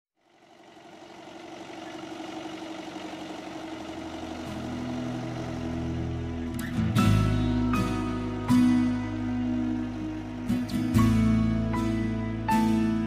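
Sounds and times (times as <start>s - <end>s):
tractor engine running: 0.2s - 13.0s.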